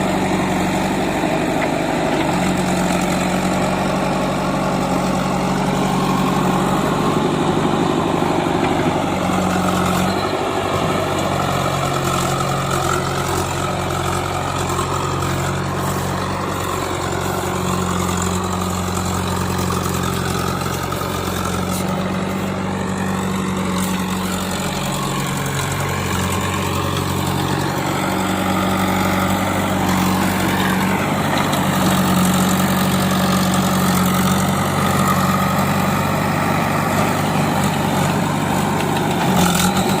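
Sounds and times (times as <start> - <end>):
diesel engines running: 0.0 - 40.0.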